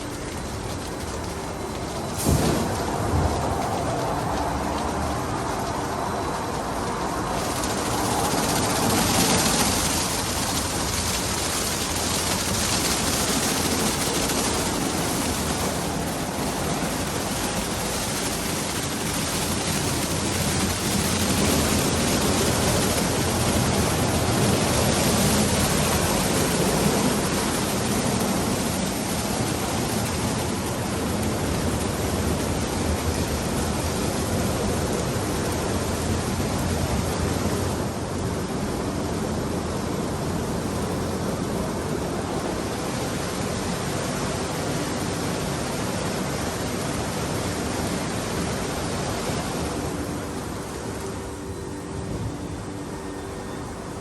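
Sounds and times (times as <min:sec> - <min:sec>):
car wash water spray and machinery: 0:00.0 - 0:54.0.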